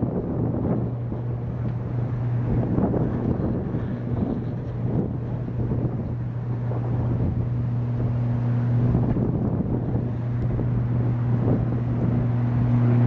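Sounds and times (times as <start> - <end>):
low electrical buzz: 0.0 - 13.0.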